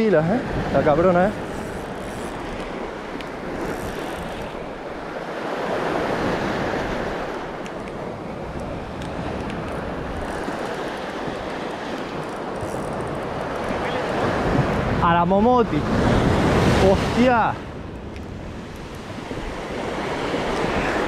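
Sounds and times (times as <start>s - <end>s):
wind noise on microphone: 0.4s - 21.0s.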